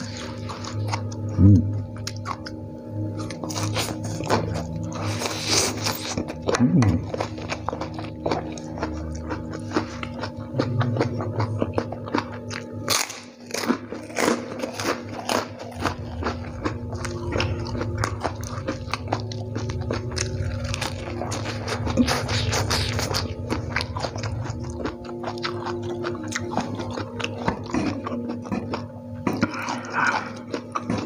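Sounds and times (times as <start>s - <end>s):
chewing noodles and bean sprouts: 0.0s - 31.0s
steady low hum: 0.0s - 31.0s.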